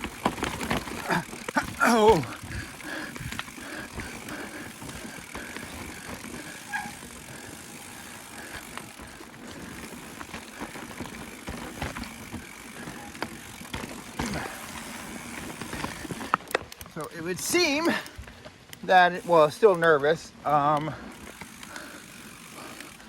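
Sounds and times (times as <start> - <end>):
bike knocking and rattling: 0.0 - 23.0
bike tyres rolling on rock: 0.0 - 23.0.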